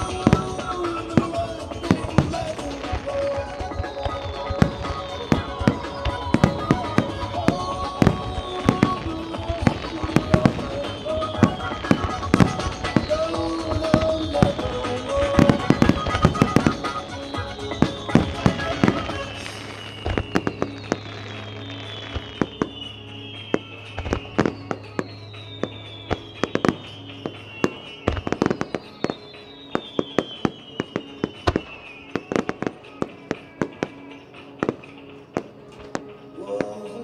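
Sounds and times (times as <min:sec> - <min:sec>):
fireworks bursting: 0:00.0 - 0:37.0
music track: 0:00.0 - 0:37.0.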